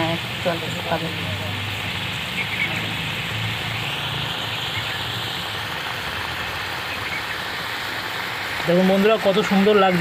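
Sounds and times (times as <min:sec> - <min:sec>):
curry sizzling hiss: 0:00.0 - 0:10.0.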